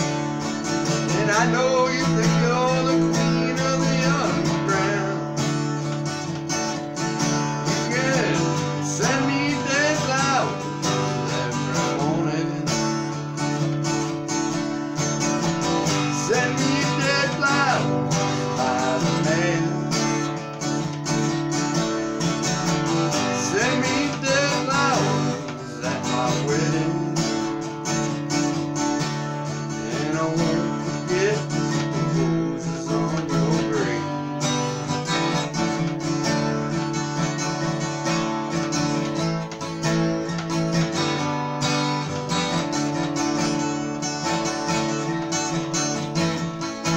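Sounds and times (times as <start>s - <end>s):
acoustic guitar chords: 0.0s - 46.9s.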